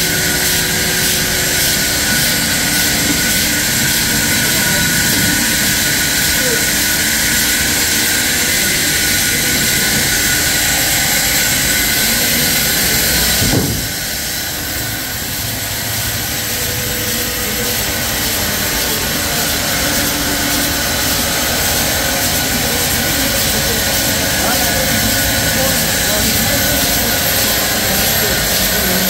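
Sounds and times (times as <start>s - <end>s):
sawmill machinery roaring: 0.0s - 29.0s.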